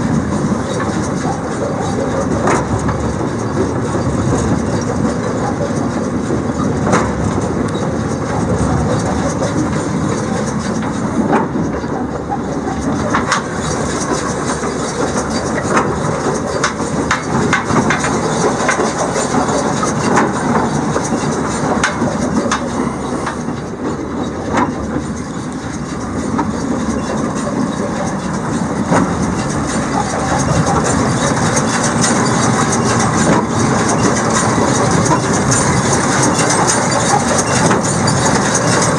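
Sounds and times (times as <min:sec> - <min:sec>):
baler mechanical clatter: 0:00.0 - 0:38.9.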